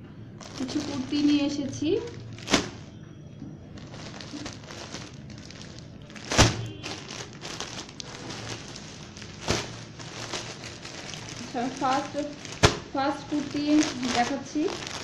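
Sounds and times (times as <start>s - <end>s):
clothes rustling and crinkling: 0.4s - 3.0s, 3.6s - 15.0s.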